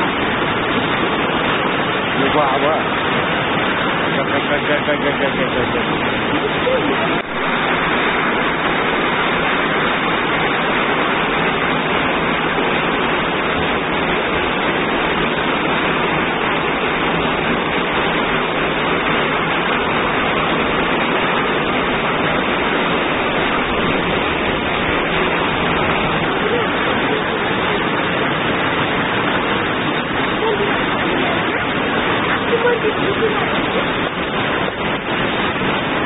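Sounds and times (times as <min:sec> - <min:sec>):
floodwater rushing over rocks: 0:00.0 - 0:36.0.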